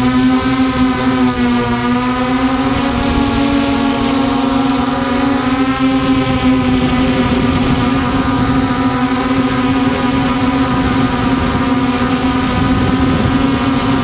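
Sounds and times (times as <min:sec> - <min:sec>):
drone motors buzzing: 0:00.0 - 0:14.0.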